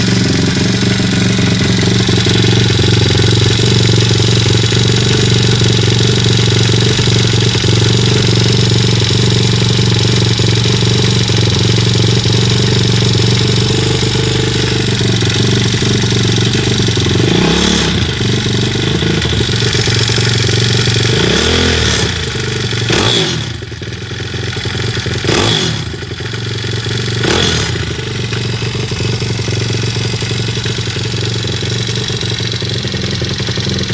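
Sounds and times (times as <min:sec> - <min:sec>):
engine knocking noise: 0:00.0 - 0:33.9
motorcycle engine running and revving: 0:00.0 - 0:33.9.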